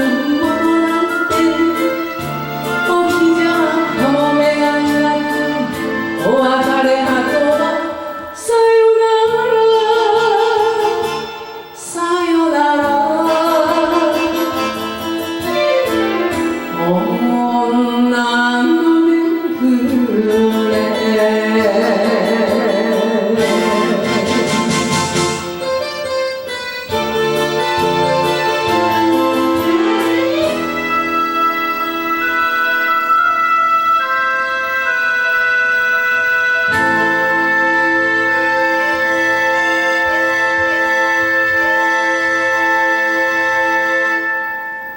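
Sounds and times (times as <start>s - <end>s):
karaoke backing track with strings: 0.0s - 44.9s.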